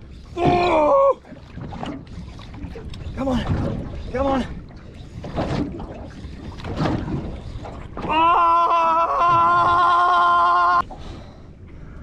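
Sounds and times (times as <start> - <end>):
water: 0.0 - 12.0
wind: 0.0 - 12.0.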